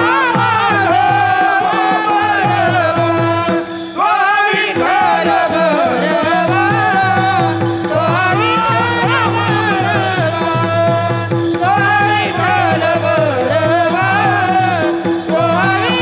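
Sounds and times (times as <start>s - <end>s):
woman singing: 0.0s - 16.0s.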